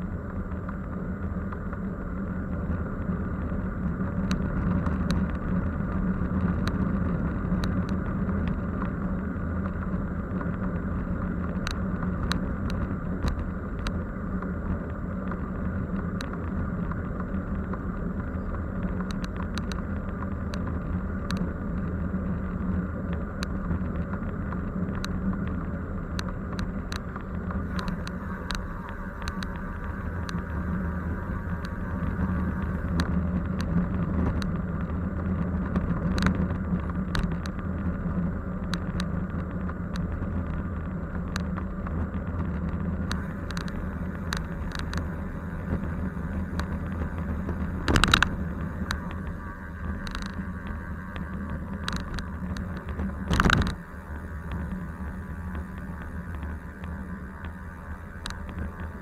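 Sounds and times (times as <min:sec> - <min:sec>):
vehicle engine and road hum: 0:00.0 - 0:59.0
small scattered clicks: 0:02.8 - 0:59.0.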